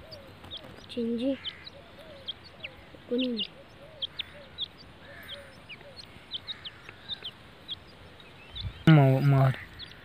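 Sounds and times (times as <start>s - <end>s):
soft low bird calls: 0.0s - 10.0s
young partridges peeping: 0.0s - 10.0s.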